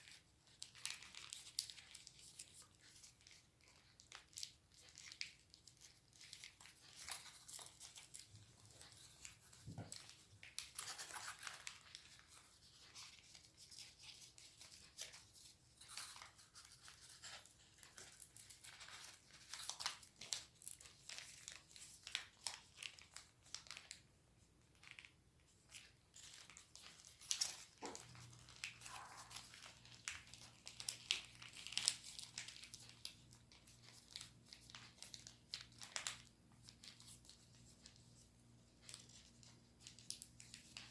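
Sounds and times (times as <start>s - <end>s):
paper being folded and creased: 0.0s - 24.0s, 24.7s - 40.9s.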